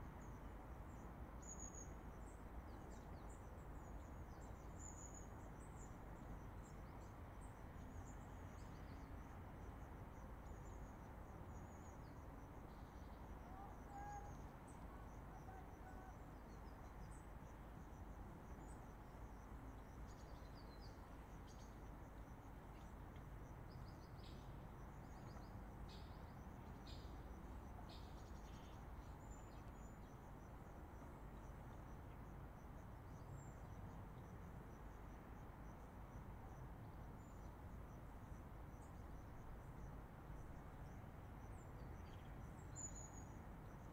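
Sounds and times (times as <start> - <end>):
small birds and insects chirping: 0.0 - 43.9.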